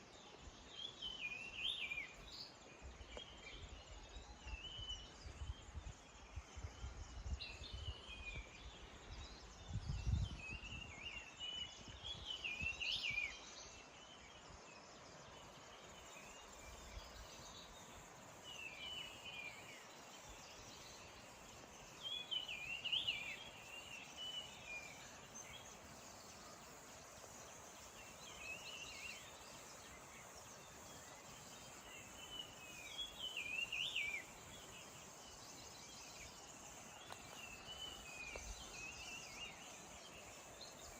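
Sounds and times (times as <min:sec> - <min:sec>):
faint outdoor hiss: 0:00.0 - 0:40.9.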